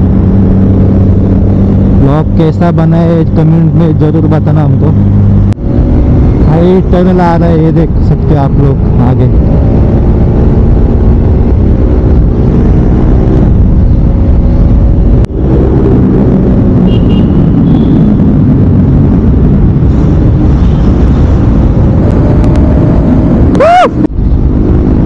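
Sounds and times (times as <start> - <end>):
motorcycle engine cruising: 0.0 - 25.0
wind rushing over microphone: 0.0 - 25.0.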